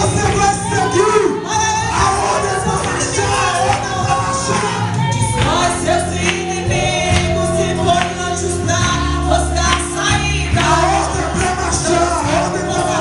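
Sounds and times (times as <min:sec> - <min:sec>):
gospel singing with instruments: 0:00.0 - 0:13.0.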